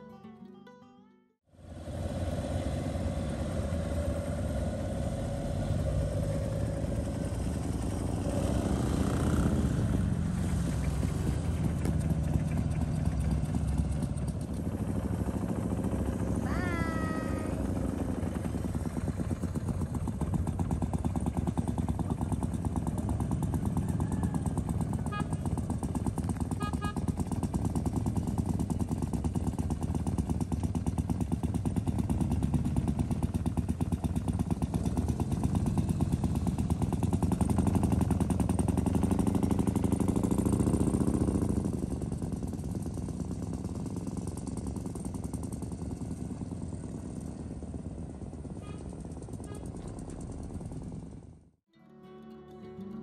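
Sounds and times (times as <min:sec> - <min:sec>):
car engine running at low speed: 0:01.5 - 0:51.6.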